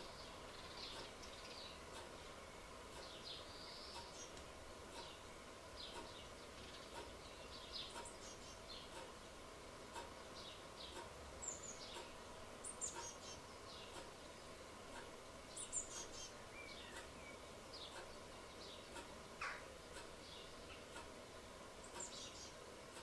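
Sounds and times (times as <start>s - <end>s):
birds chirping high: 0.0s - 22.7s
faint steady hum: 0.0s - 23.0s.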